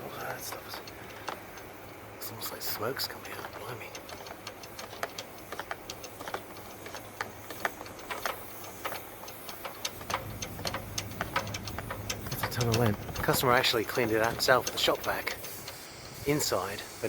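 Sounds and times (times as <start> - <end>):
light clicks and ticks: 0.0 - 17.0.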